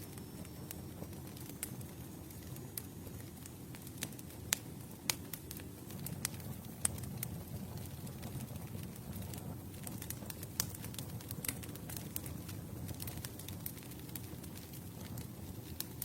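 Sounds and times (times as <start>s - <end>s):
campfire wood crackling: 0.0s - 16.0s
low rumble of flames: 0.0s - 16.0s.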